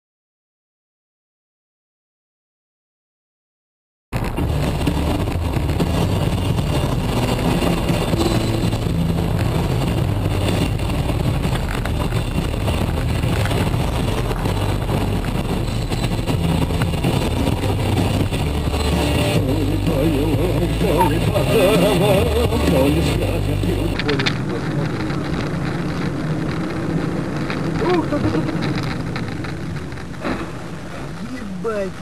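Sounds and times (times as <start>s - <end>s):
road noise: 4.1s - 32.0s
car engine: 4.2s - 32.0s.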